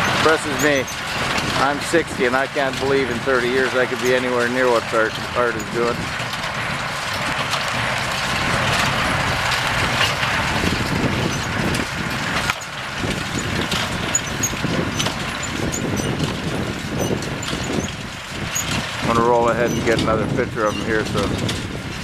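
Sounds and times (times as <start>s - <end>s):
tractor engine and hay baler: 0.0s - 22.0s.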